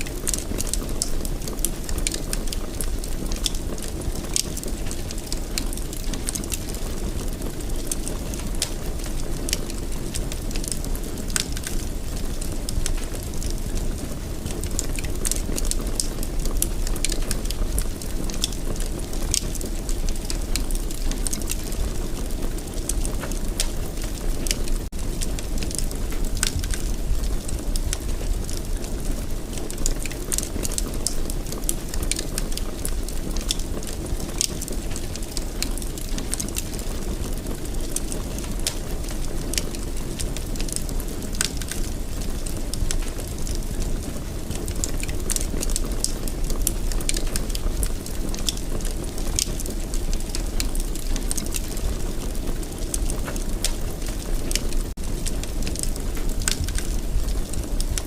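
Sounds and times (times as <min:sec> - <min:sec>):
fire crackling and popping: 0:00.0 - 0:58.0
low rush of flames: 0:00.0 - 0:58.0.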